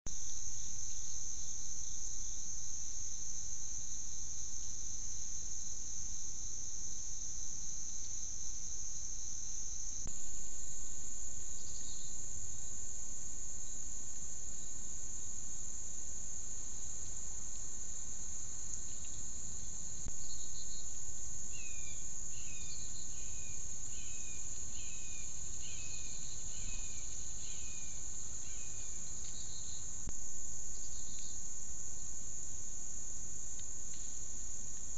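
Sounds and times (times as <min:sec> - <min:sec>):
insect chorus droning: 0:00.1 - 0:34.9.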